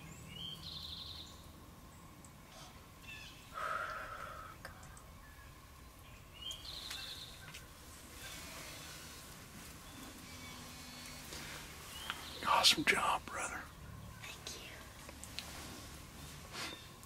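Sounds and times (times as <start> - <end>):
light rain hissing: 0.0 - 17.0
wild birds calling: 0.0 - 17.0.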